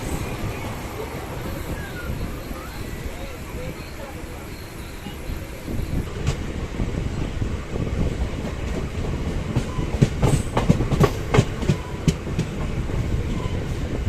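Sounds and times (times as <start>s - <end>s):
train running with low rumble: 0.0s - 14.0s.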